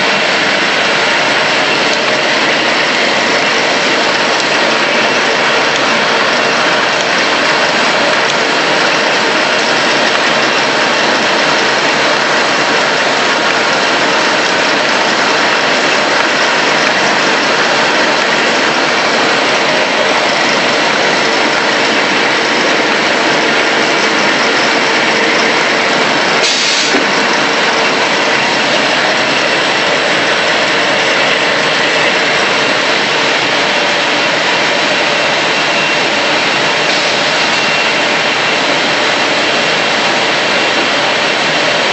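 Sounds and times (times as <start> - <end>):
paper cutting machine running: 0.0 - 41.9
rush of machine noise: 0.0 - 41.9.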